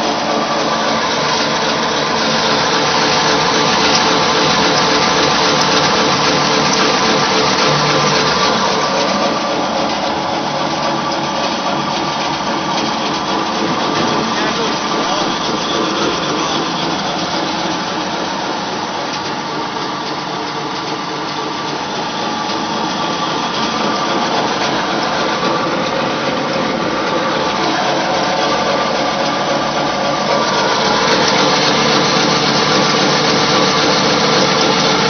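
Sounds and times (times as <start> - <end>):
pellet mill mechanical drone: 0.0 - 35.0.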